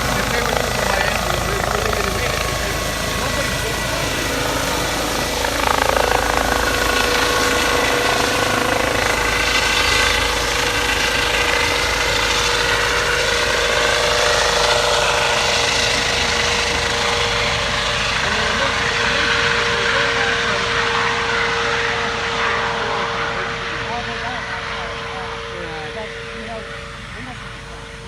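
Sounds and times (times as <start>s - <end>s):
motor running: 0.0s - 28.0s.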